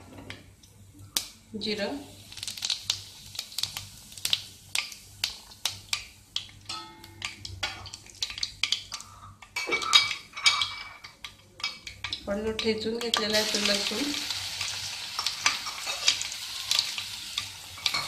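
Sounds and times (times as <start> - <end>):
seeds crackling in hot oil: 0.6 - 18.0
clatter and sizzle: 2.2 - 18.0.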